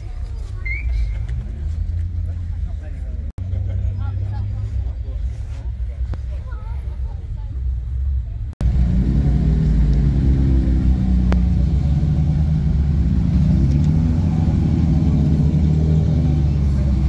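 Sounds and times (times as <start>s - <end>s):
sports car engines rumbling: 0.0s - 17.0s.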